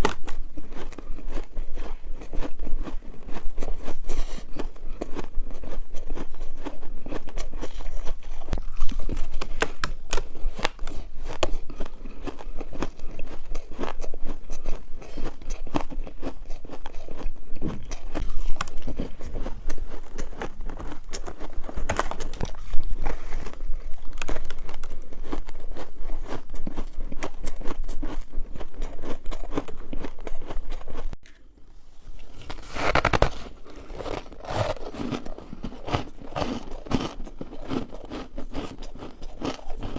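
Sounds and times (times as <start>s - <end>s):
ice being chewed: 0.0s - 31.2s, 32.1s - 39.9s.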